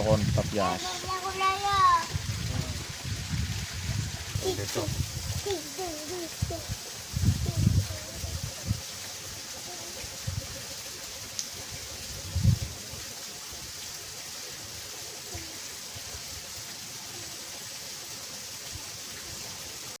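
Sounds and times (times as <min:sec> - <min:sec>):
water flowing in a ditch: 0:00.0 - 0:20.0.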